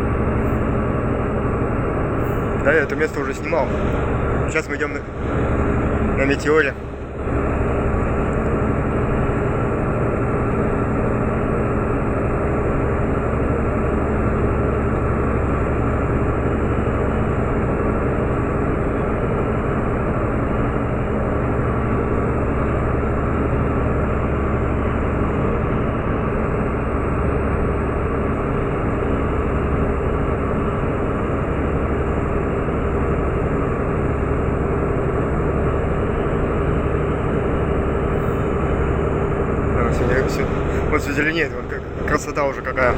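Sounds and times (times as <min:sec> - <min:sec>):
diesel engines droning: 0:00.0 - 0:42.9.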